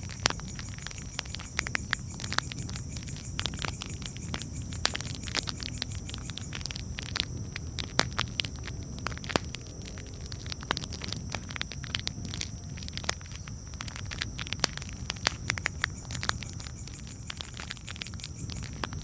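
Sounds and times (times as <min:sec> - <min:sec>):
campfire crackling and popping: 0:00.0 - 0:19.0
low rumble of burning fire: 0:00.0 - 0:19.0.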